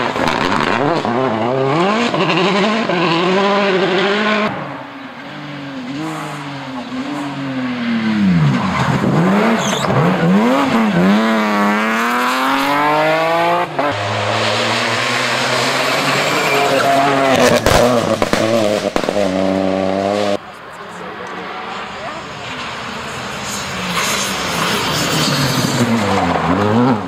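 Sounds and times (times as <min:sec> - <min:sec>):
rally car engines at full throttle: 0:00.0 - 0:27.0.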